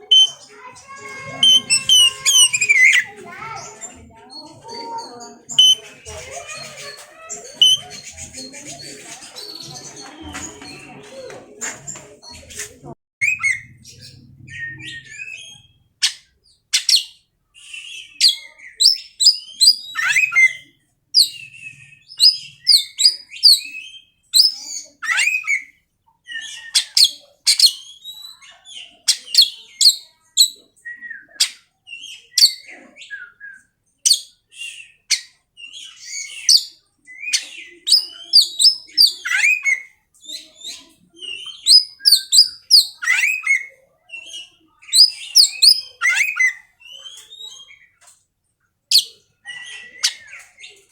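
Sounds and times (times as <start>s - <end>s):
bird singing whistles and chirps: 0.0s - 3.7s, 5.5s - 5.8s, 7.3s - 10.8s, 13.2s - 16.2s, 16.8s - 25.7s, 26.3s - 47.9s, 48.9s - 50.9s.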